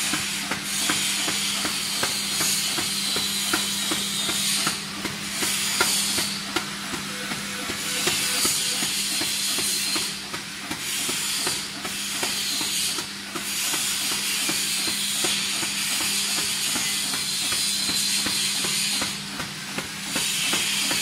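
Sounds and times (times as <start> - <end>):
cutting machine hiss and hum: 0.0 - 21.0.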